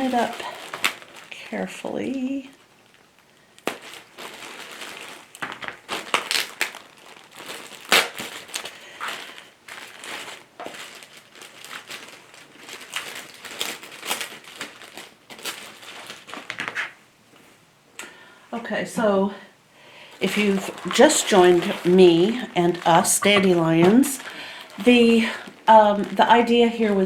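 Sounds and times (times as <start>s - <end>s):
packaging crinkling and rustling: 0.0s - 17.5s, 20.0s - 27.0s.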